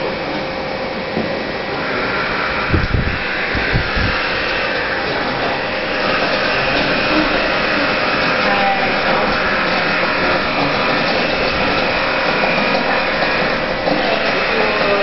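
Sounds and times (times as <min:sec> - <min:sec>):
blower whirring: 0:00.0 - 0:15.0.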